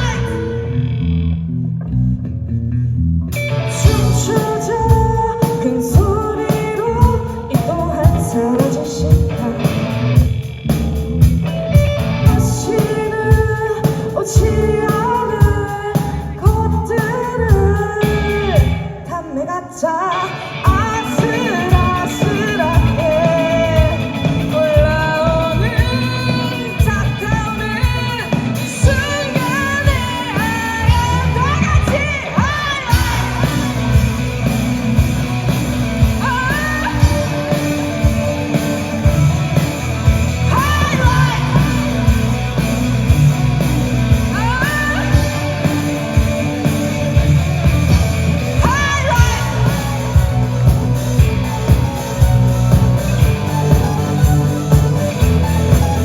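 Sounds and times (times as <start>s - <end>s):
rock band playing: 3.3s - 18.9s, 20.3s - 56.0s
person singing: 3.6s - 10.2s, 12.2s - 56.0s.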